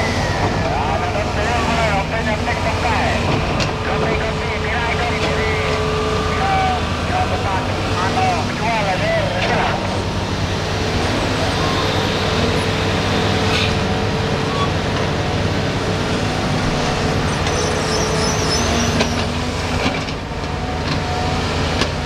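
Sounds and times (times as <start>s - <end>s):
excavator diesel engine under load: 0.0s - 22.0s.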